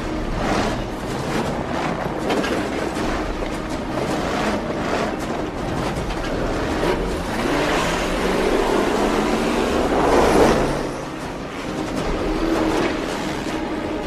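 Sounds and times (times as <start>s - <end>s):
car engine running: 0.0s - 14.0s
tyres rumbling over rough ground: 0.0s - 14.0s.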